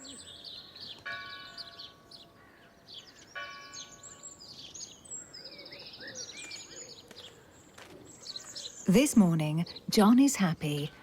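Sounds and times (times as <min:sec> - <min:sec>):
small birds singing: 0:00.0 - 0:11.0.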